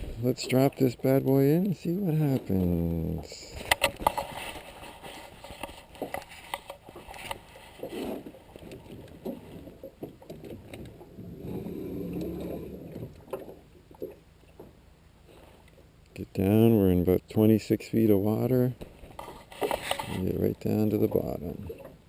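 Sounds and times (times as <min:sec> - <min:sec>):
handling knocks and clicks in boat: 0:00.0 - 0:17.4, 0:18.6 - 0:22.0
low hum: 0:00.0 - 0:21.7.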